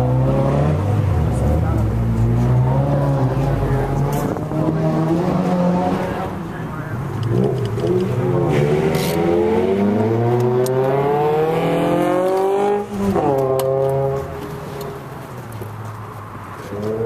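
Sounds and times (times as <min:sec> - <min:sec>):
car engine revving: 0:00.0 - 0:15.3.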